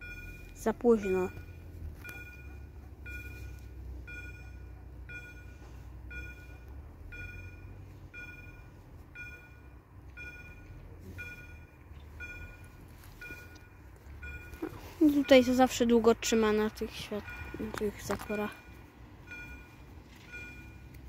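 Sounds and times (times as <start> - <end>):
level crossing bell dinging: 0.0 - 21.0
low steady rumble: 0.0 - 21.0.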